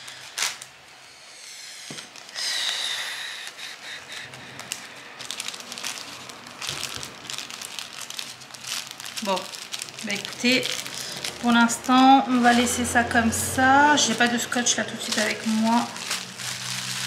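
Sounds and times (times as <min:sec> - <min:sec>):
plastic bags crinkling: 0:00.0 - 0:00.8, 0:01.9 - 0:17.0.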